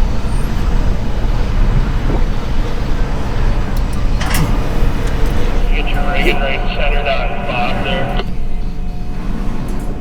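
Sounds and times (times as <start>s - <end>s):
crane diesel engine rumbling: 0.0s - 10.0s.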